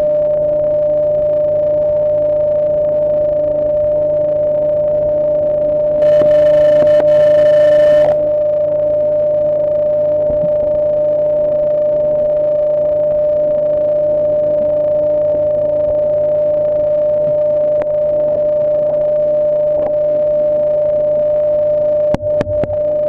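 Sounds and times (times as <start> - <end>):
loud steady tone: 0.0 - 23.0.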